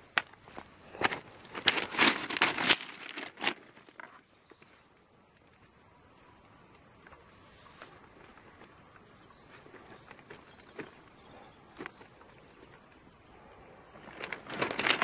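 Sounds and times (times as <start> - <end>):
crunching on ballast stones: 0.0 - 5.8, 7.9 - 15.0.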